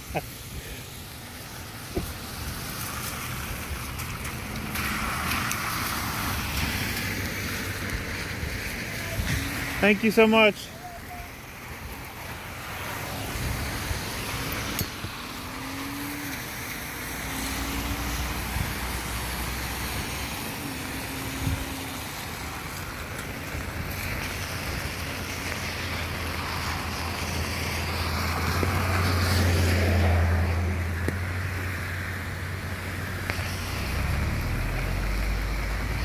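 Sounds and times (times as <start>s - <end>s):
car engine humming: 0.0s - 36.0s
rain on wet street: 0.0s - 36.0s.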